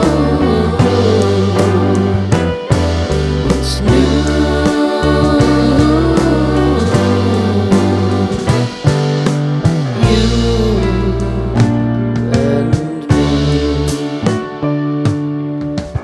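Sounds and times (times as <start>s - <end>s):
rock music with guitar and bass: 0.0s - 16.0s.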